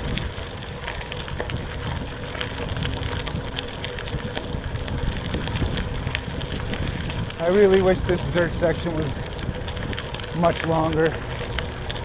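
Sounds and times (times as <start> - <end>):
bicycle tyres rolling over dirt: 0.0 - 12.0
wind rumble on microphone: 0.0 - 12.0.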